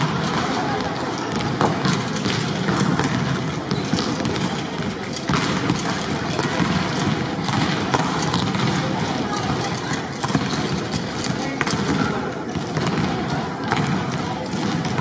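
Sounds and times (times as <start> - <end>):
crowd din in sports hall: 0.0 - 15.0
volleyballs struck and bouncing: 0.0 - 15.0.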